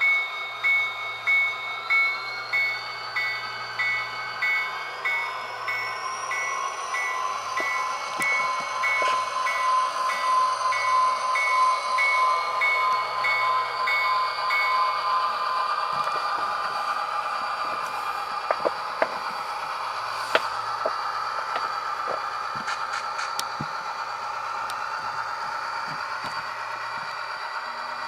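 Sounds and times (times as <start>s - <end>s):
simulated diesel engine drone: 0.0s - 28.0s.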